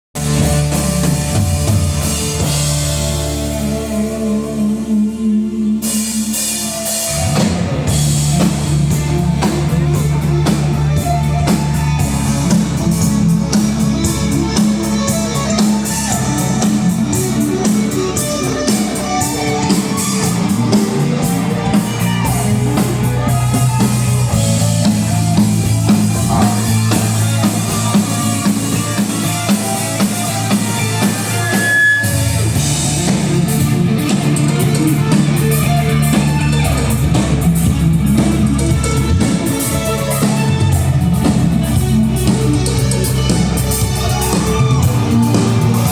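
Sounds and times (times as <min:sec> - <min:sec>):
band playing rock groove: 0:00.2 - 0:05.0, 0:05.8 - 0:45.9
sustained low bass notes: 0:00.2 - 0:45.9.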